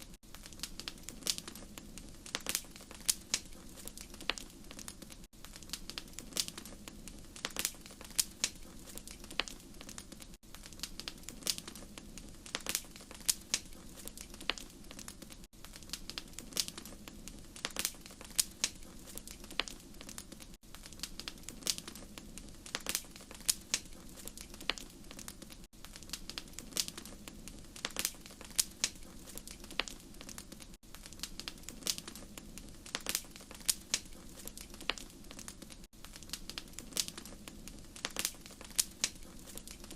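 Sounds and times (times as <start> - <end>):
low hum of burning: 0.0 - 39.9
wood fire crackling: 0.0 - 39.9.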